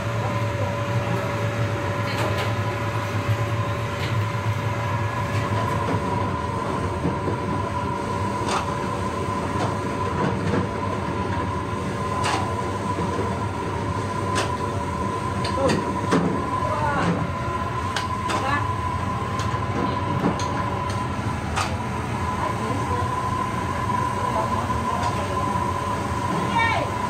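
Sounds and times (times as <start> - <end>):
wok at a rolling boil: 0.0 - 27.0.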